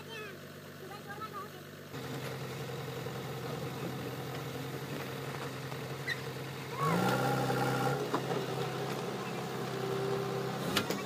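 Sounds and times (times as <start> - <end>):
diesel engine idling and revving: 0.0 - 11.0.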